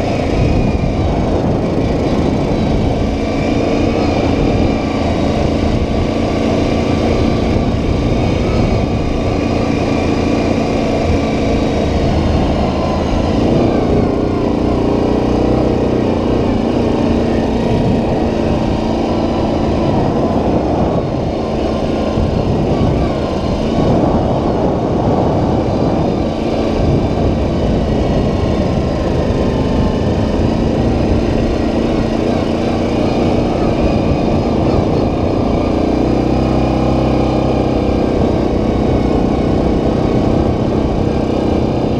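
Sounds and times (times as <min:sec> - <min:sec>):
atv engine running: 0:00.0 - 0:41.9.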